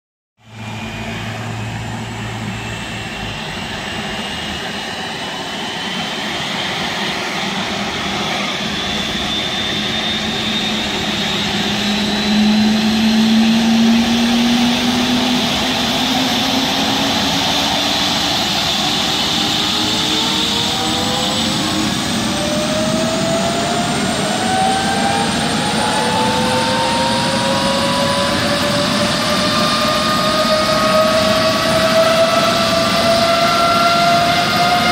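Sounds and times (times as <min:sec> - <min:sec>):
helicopter turbine whine: 0:00.4 - 0:34.9.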